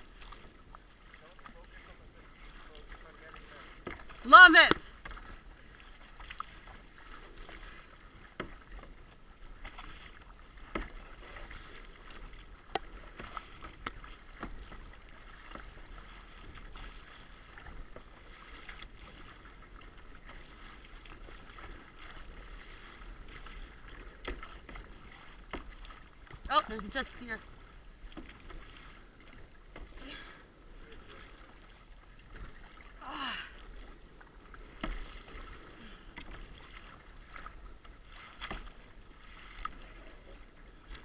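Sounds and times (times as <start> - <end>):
paddle blades splashing: 0.0 - 41.0
water lapping against hull: 0.0 - 41.0.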